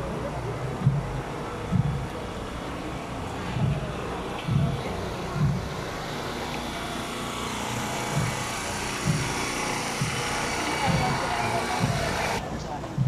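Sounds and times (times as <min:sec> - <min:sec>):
dull low thumps: 0:00.0 - 0:13.0
engine-like hum: 0:00.0 - 0:13.0
street and crowd noise: 0:00.0 - 0:13.0.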